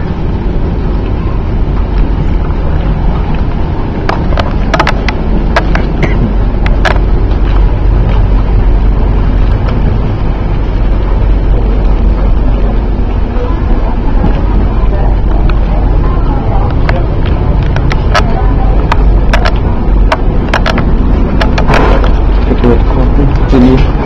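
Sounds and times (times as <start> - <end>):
aircraft and equipment rumble: 0.0 - 24.0.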